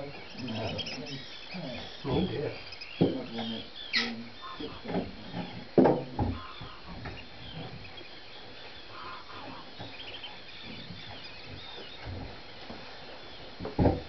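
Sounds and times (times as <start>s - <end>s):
birds chirping and whistling: 0.0s - 14.0s
outdoor background noise: 0.0s - 14.0s.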